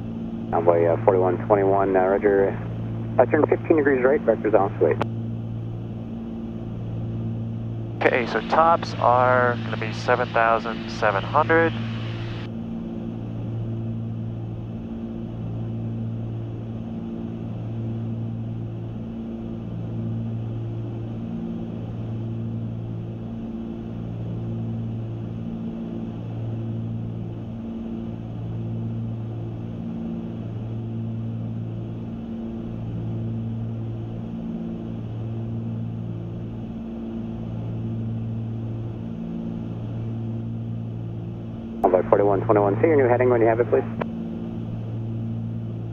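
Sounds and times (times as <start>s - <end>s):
twin propeller engines droning: 0.0s - 45.9s.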